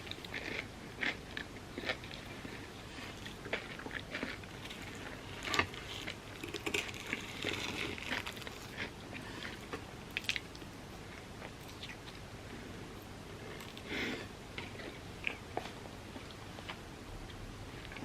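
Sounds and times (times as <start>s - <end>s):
crunchy chewing: 0.0s - 16.8s.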